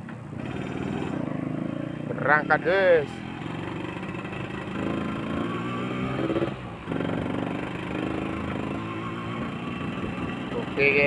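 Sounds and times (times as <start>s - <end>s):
two-stroke motorcycle engine revving: 0.3s - 11.0s.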